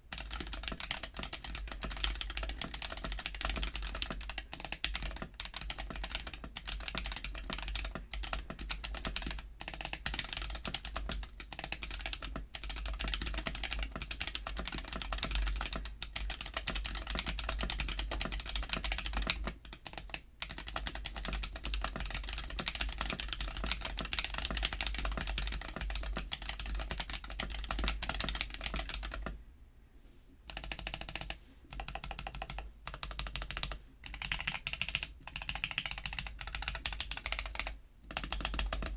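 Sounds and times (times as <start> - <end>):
fast typing on mechanical keyboard: 0.1 - 29.4, 30.5 - 38.9.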